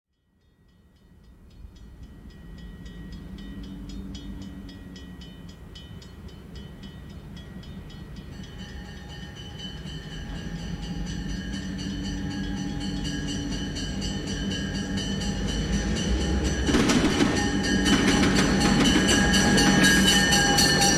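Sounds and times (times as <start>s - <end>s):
crossing bell ringing rapidly: 0.6s - 20.9s
diesel locomotive engine rumble: 1.2s - 20.9s.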